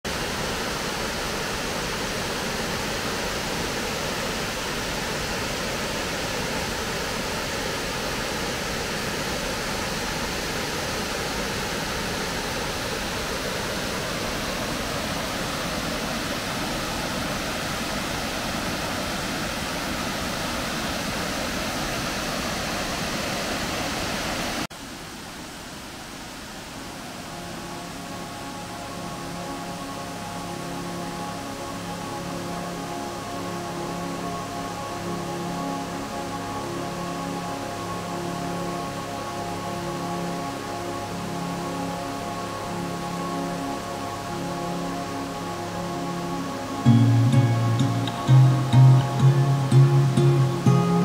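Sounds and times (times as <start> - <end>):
waterfall rushing over rocks: 0.1 - 51.0.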